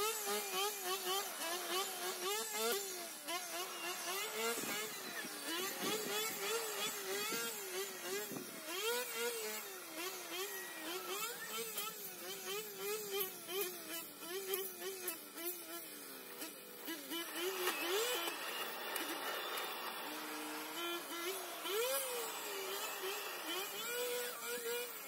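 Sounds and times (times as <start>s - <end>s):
grass trimmer motor whining: 0.0s - 25.0s.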